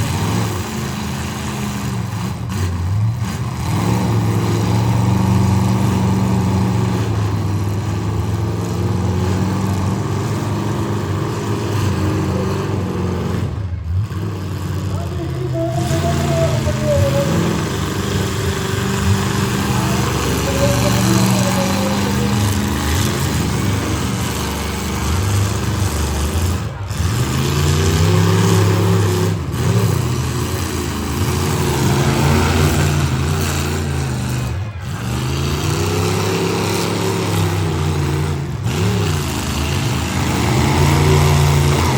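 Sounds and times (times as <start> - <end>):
car engines revving: 0.0 - 41.9.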